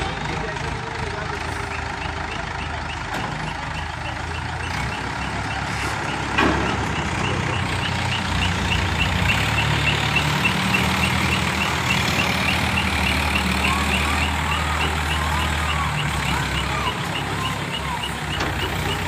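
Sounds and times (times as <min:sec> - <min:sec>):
diesel engines running: 0:00.0 - 0:19.0
reversing alarm beeping: 0:01.5 - 0:19.0.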